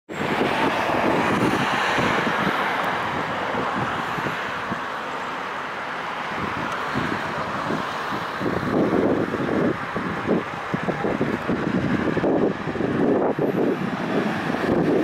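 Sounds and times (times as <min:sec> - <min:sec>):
wind buffeting microphone: 0:00.1 - 0:05.0, 0:05.6 - 0:15.0
steady outdoor hiss: 0:00.1 - 0:15.0.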